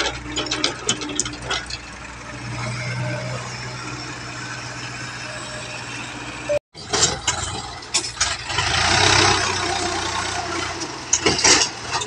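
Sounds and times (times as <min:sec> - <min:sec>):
diesel engines running: 0:00.0 - 0:12.0.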